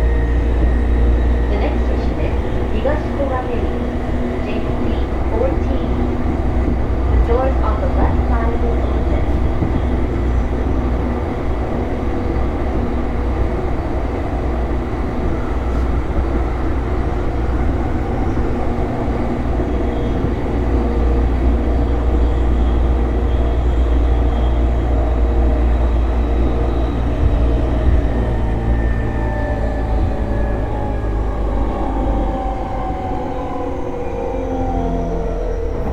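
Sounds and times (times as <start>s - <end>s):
wheels rumbling on rail: 0.0s - 35.9s.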